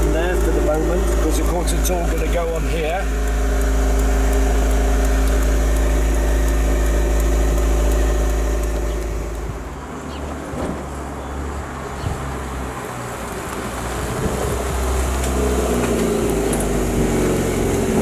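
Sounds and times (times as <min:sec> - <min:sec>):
sports car engine running: 0:00.0 - 0:10.2, 0:13.4 - 0:18.0.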